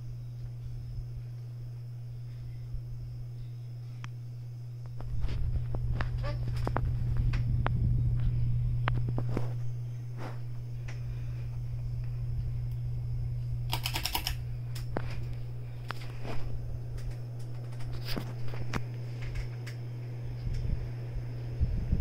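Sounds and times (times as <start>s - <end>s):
ceiling fan motor hum: 0.0s - 22.0s.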